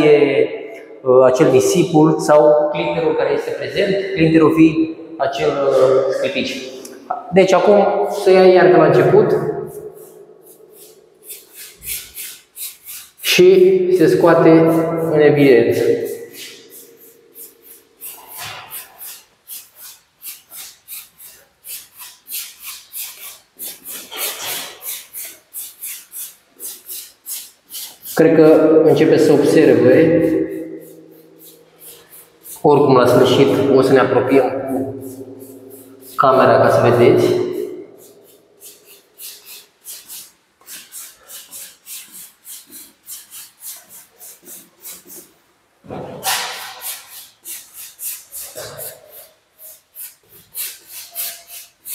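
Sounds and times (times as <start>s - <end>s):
brush rasping on sandy paint: 8.1s - 45.5s, 46.2s - 51.9s.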